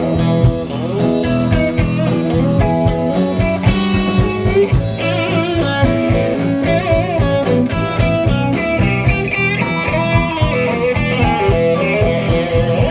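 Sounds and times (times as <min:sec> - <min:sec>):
bass guitar: 0:00.0 - 0:12.9
lead electric guitar bending notes: 0:00.0 - 0:12.9
steady drum beat: 0:00.0 - 0:12.9.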